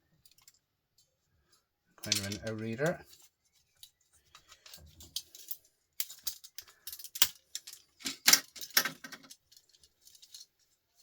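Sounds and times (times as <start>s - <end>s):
clicks and knocks of small parts: 0.1s - 1.1s, 2.0s - 10.8s.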